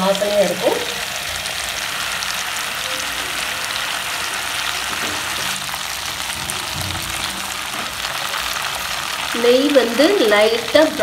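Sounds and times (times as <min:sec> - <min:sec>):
butter sizzling and bubbling in a pan: 0:00.0 - 0:11.0.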